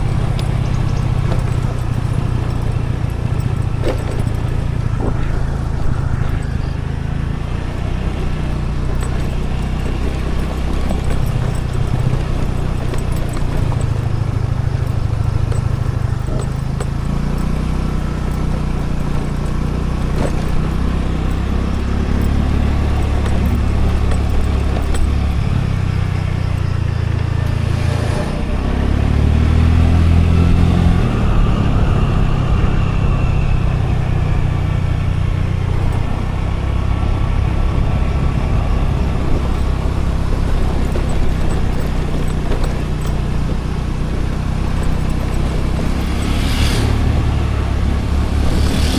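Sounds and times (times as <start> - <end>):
road and wind noise: 0.0 - 48.9
scooter engine running: 0.0 - 48.9.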